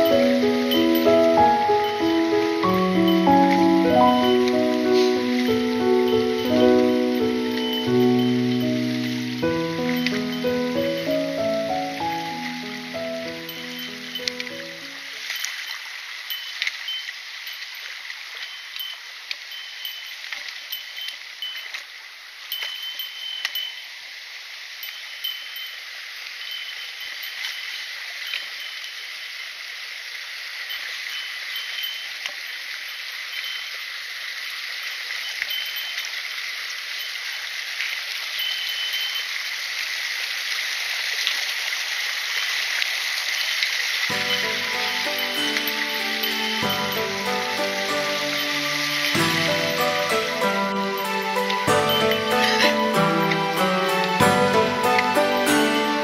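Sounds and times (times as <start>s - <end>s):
small bell jingling: 0.0s - 24.0s, 24.8s - 29.4s, 30.6s - 37.4s, 38.3s - 39.5s, 44.1s - 56.0s
stream rushing over rocks: 0.0s - 56.0s.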